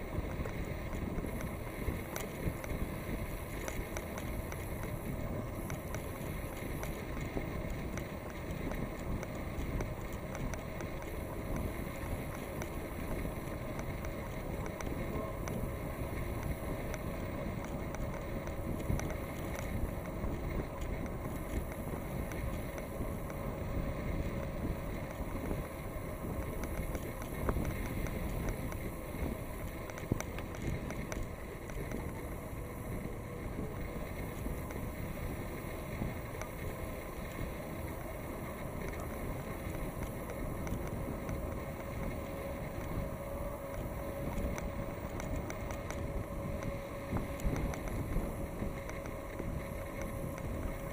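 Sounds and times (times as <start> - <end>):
wind rushing on microphone: 0.0 - 50.9
light ticks: 0.1 - 50.9.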